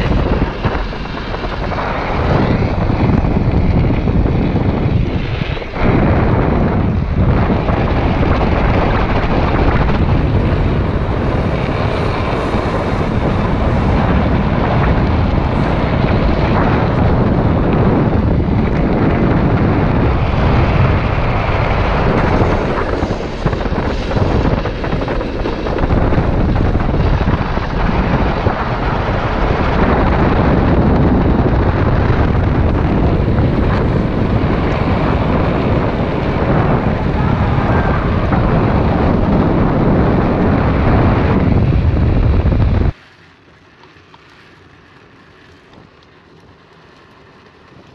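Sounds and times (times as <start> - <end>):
wind rushing on microphone: 0.0 - 43.0
wheels rolling on asphalt: 0.0 - 47.9.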